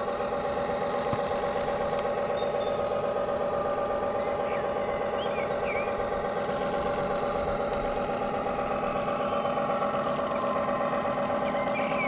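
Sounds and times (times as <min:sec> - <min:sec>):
model boat engine drone: 0:00.0 - 0:12.0.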